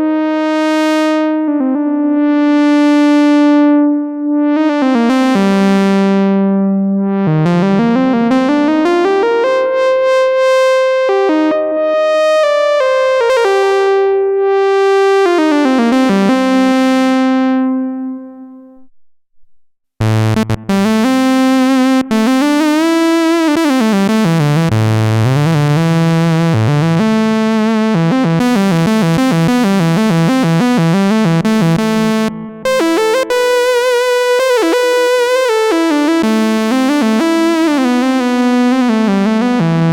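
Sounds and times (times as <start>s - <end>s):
synthesizer lead gliding notes: 0.0s - 18.9s, 20.0s - 39.9s.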